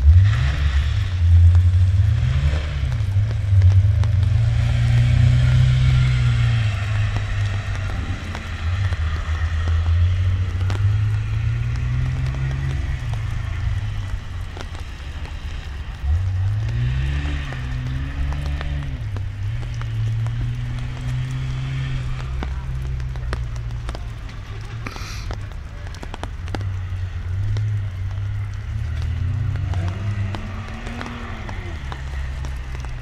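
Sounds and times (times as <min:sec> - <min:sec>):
car engine pulling hard: 0:00.0 - 0:33.0.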